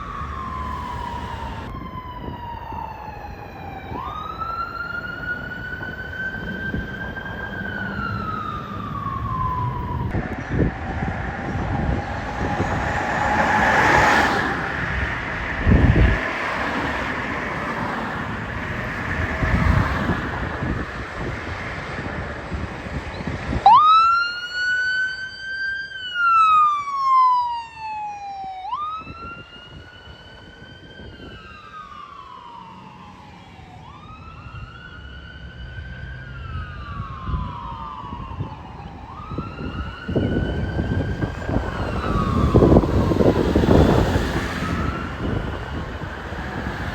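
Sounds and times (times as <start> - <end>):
loud passing traffic: 0.0 - 24.0, 28.9 - 46.9
emergency vehicle siren wailing: 0.0 - 46.9.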